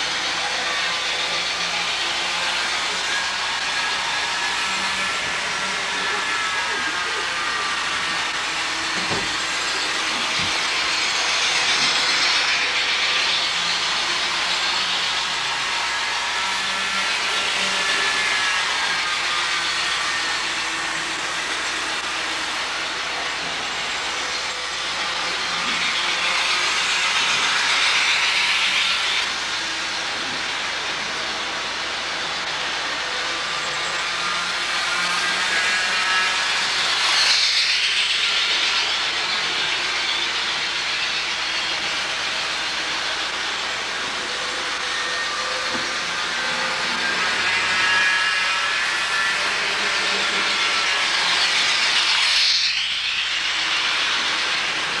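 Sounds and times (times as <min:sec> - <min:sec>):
model train wheels and motors hissing: 0:00.0 - 0:55.0.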